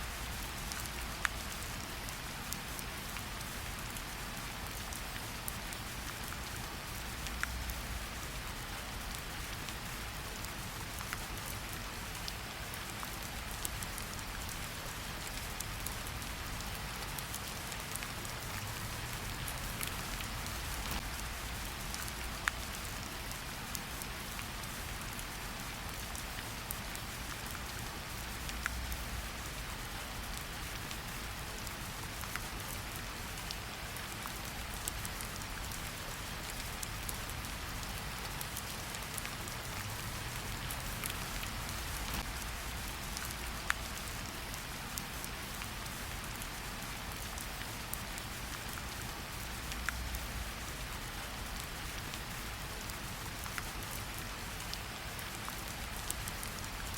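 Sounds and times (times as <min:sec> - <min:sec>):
rain falling in forest: 0:00.0 - 0:56.9.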